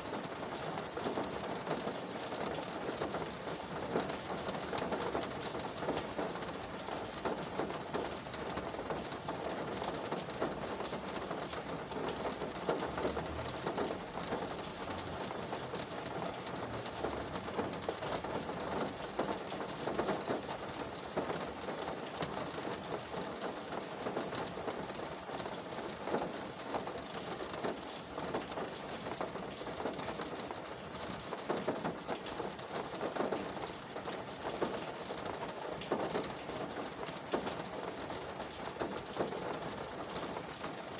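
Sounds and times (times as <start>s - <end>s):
rain drumming on car roof: 0.0s - 40.9s.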